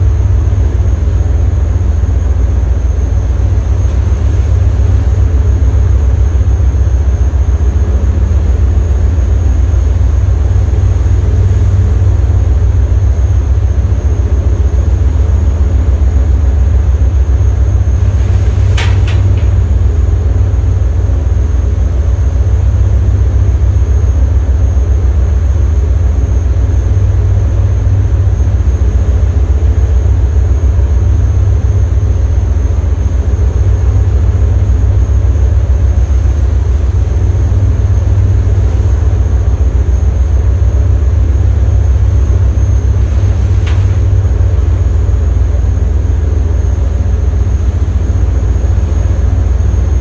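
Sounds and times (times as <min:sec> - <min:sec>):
boat engine throbbing: 0:00.0 - 0:50.0.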